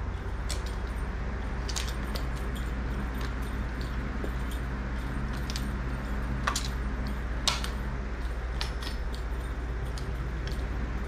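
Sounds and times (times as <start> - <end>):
small bells jingling: 0.0 - 11.0
steady low hum: 0.0 - 11.0.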